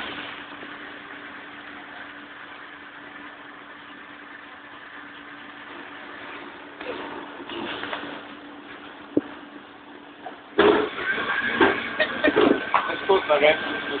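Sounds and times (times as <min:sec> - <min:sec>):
machinery and ventilation hum: 0:00.0 - 0:14.0.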